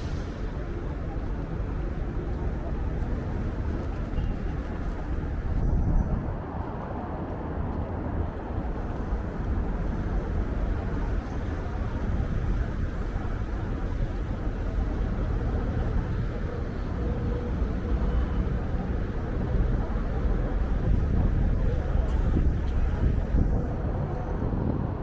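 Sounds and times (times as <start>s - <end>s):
street traffic: 0.0s - 25.0s
wind buffeting microphone: 0.0s - 25.0s.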